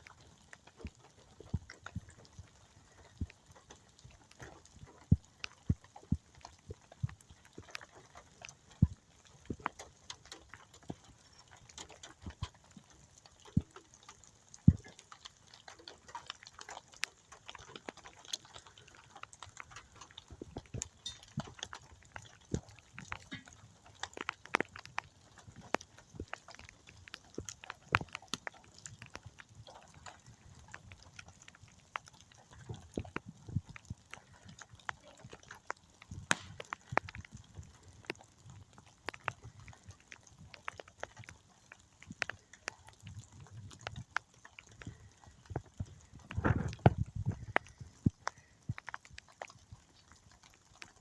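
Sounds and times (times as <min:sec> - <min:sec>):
rainwater dripping from trees: 0:00.0 - 0:51.0.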